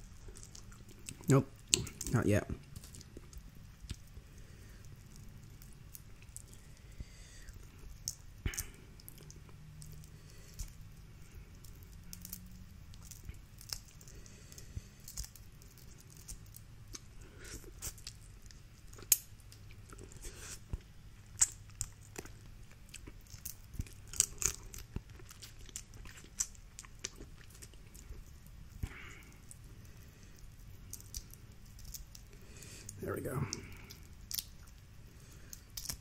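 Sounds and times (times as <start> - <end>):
chewing: 0.0 - 36.0.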